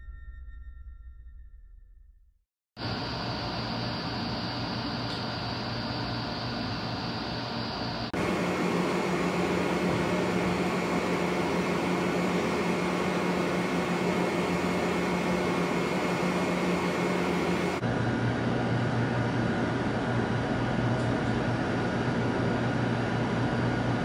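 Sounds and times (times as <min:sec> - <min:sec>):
machine-like hum: 0:02.8 - 0:24.0.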